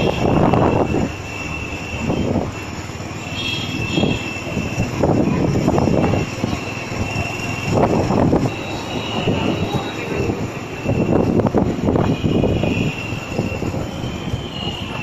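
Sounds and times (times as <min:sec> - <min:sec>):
wind buffeting microphone: 0:00.0 - 0:03.0, 0:03.8 - 0:15.0.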